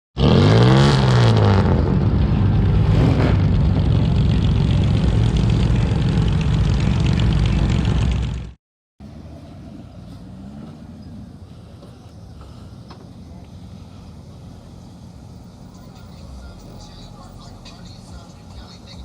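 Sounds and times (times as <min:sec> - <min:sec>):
car engine revving and idling: 0:00.2 - 0:19.0.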